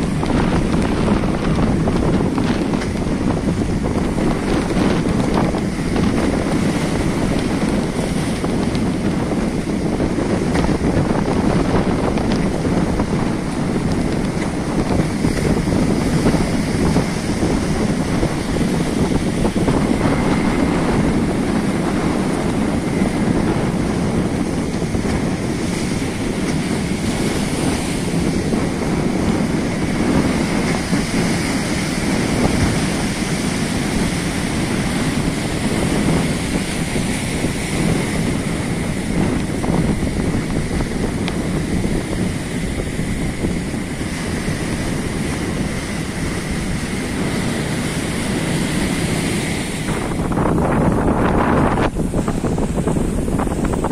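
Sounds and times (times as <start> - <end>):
ocean surf breaking over rocks: 0.0 - 53.9
wind buffeting microphone: 0.0 - 53.9.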